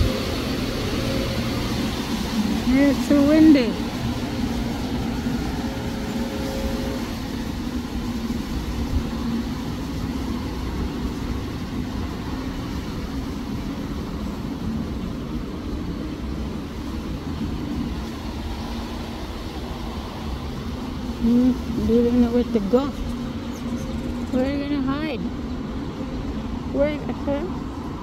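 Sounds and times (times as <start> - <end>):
wind on microphone: 0.0 - 28.0.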